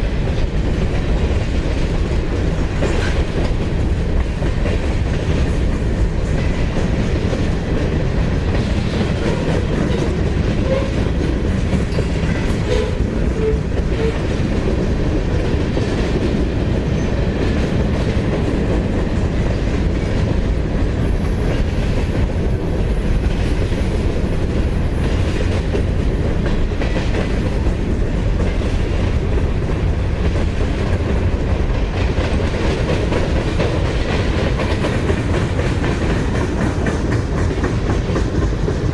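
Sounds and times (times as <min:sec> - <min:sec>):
freight train rumbling past: 0:00.0 - 0:38.9
wheels clacking over rails: 0:00.4 - 0:38.9.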